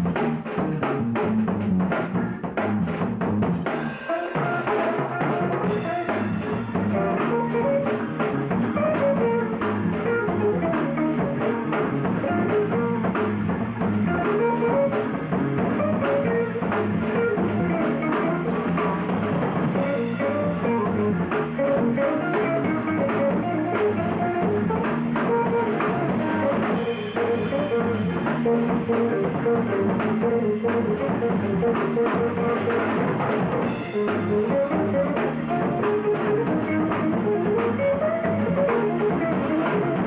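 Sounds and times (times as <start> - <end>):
drum kit: 0.0 - 40.0
guitar: 0.0 - 40.0.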